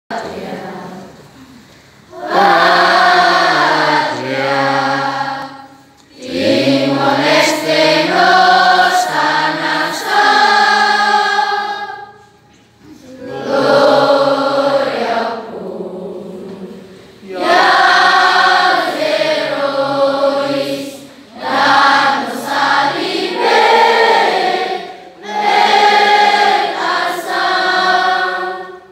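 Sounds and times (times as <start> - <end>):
group of students singing: 0.1 - 1.3, 2.1 - 28.9.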